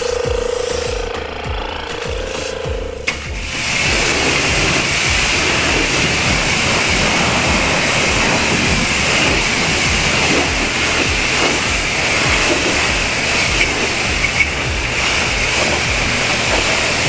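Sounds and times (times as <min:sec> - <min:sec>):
background music: 0:00.0 - 0:17.0
pressure washer spray hissing: 0:01.9 - 0:17.0.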